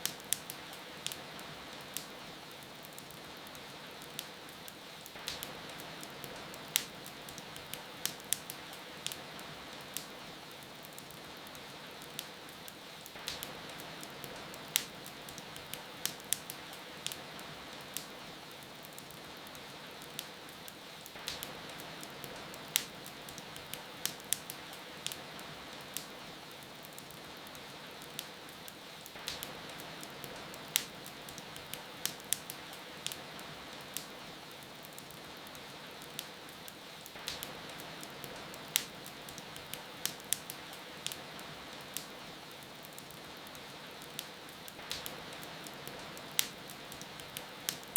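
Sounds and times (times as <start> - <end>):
rain hiss: 0.0 - 47.9
wood fire crackling: 0.0 - 47.9.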